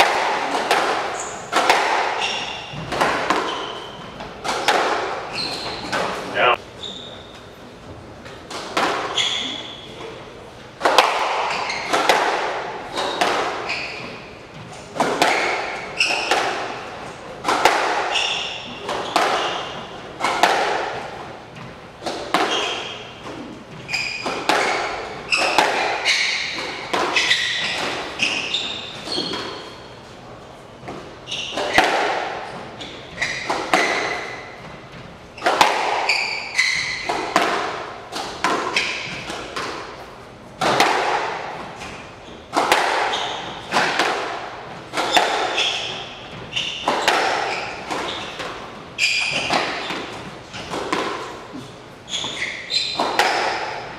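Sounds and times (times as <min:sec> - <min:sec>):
squash ball hits echoing: 0:00.0 - 0:06.6, 0:08.2 - 0:29.9, 0:30.8 - 0:53.9
shoes squeaking on wooden floor: 0:00.0 - 0:07.6, 0:08.4 - 0:10.3, 0:10.9 - 0:12.2, 0:12.8 - 0:20.4, 0:21.0 - 0:39.9, 0:41.4 - 0:53.9.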